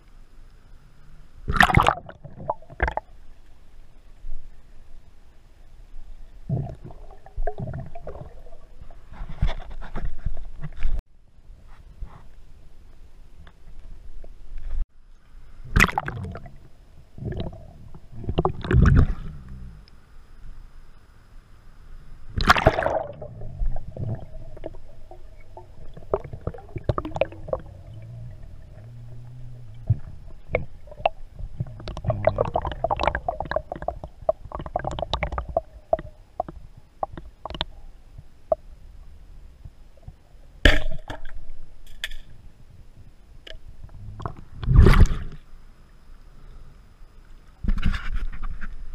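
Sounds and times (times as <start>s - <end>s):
water swishing and bubbling: 0.0s - 11.0s, 12.5s - 48.9s.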